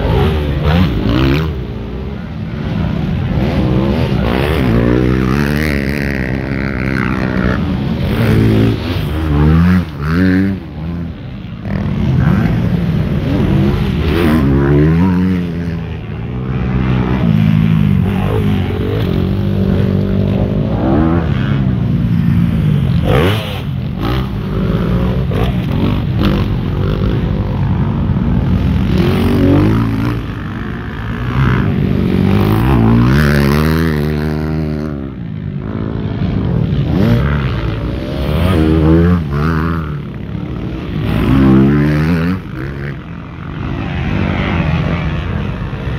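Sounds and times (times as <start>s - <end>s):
motocross bike engines revving: 0.0s - 45.9s.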